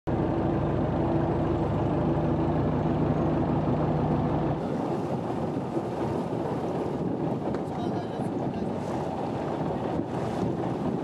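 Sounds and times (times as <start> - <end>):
boat engine humming: 0.1 - 11.0.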